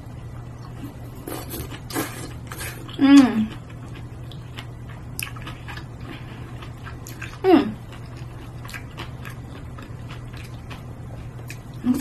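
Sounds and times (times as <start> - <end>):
woman chewing: 0.4 - 12.0.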